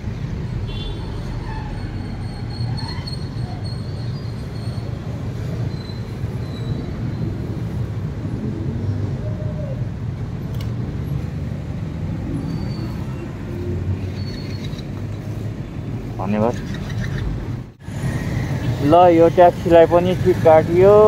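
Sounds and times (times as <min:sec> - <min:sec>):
motorcycle and car engines rumbling: 0:00.0 - 0:21.0.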